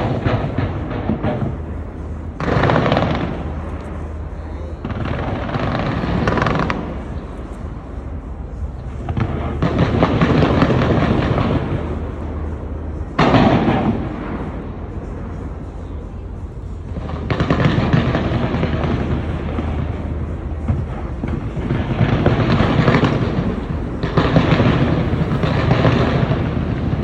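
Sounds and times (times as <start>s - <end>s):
fireworks booming and crackling: 0.0s - 27.0s.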